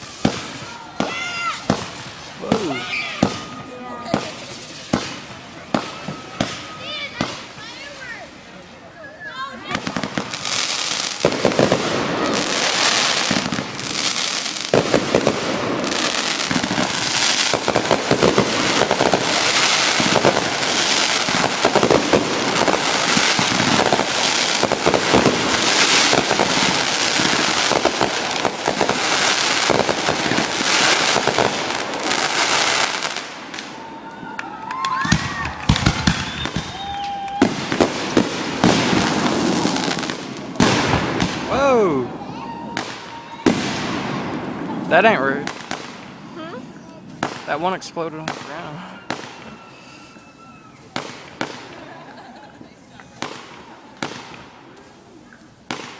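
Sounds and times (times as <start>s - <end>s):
rising firework whistles: 0.0s - 8.1s, 8.9s - 46.0s, 48.3s - 52.0s
fireworks crackling and banging: 0.0s - 55.9s.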